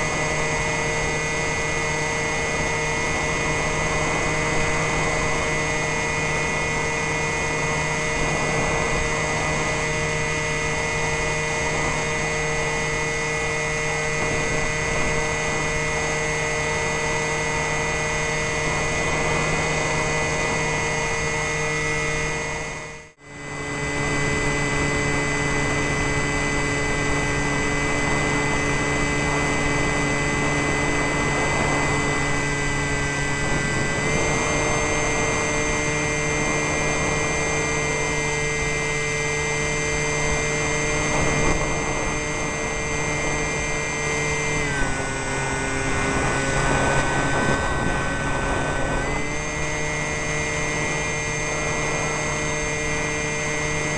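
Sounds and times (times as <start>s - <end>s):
electric motor and propeller whine: 0.0s - 53.9s.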